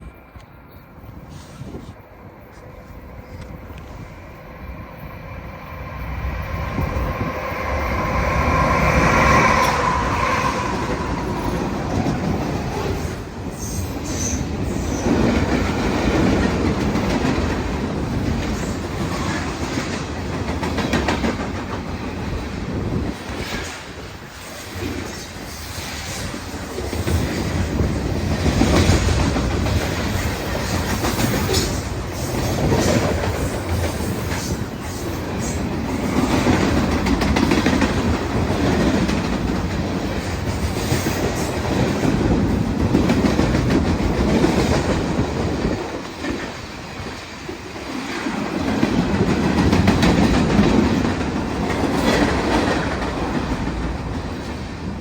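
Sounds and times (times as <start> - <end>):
freight train wheels clattering: 5.0 - 55.0.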